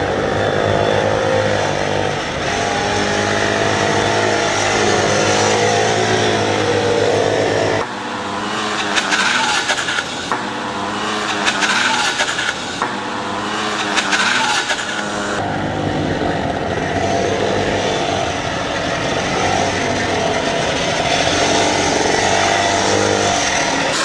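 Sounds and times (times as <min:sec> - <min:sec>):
small racing motorcycle engines: 0:00.0 - 0:24.0.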